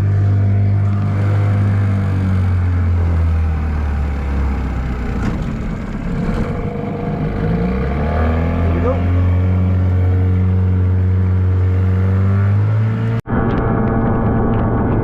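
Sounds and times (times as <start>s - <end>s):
outboard motor running: 0.0s - 12.4s.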